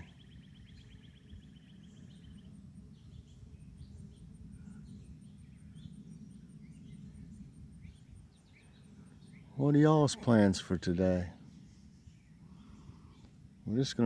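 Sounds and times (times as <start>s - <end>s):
bird chirps: 0.0s - 13.8s
low steady rumble: 0.0s - 14.0s.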